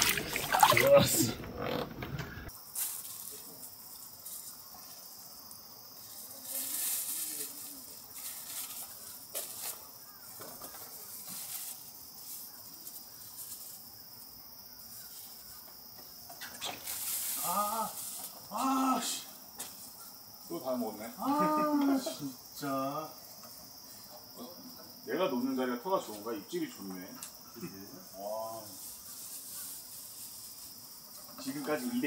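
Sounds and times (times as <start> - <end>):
steady high-pitched hiss: 2.1 - 32.0.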